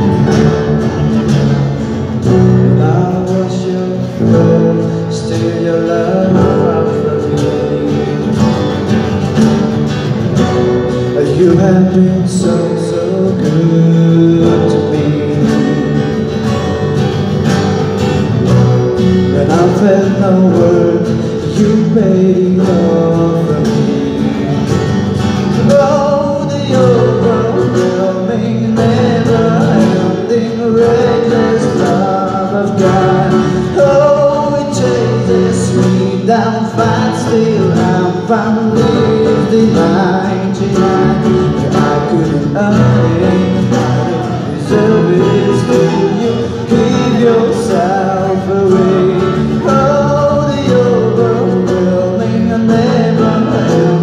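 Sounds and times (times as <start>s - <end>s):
bass: 0.0s - 54.0s
keyboard: 0.0s - 54.0s
percussion: 0.0s - 54.0s
strummed acoustic guitars: 0.0s - 54.0s
person singing: 2.3s - 9.0s, 10.9s - 16.4s, 19.2s - 54.0s.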